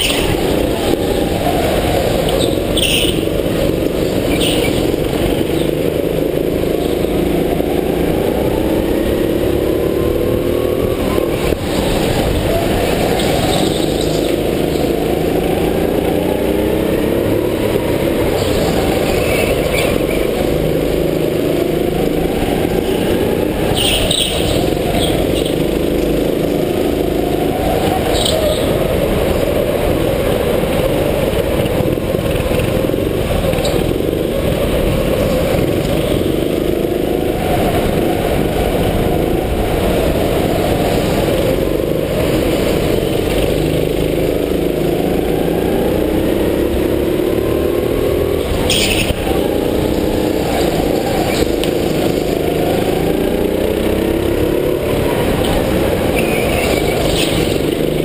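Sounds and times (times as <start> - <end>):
go-kart engine running hard: 0.0 - 58.0
other go-kart engines: 0.0 - 58.0.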